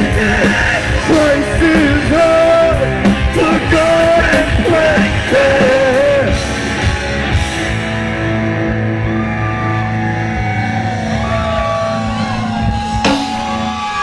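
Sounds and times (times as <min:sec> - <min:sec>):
live rock band: 0:00.0 - 0:14.0.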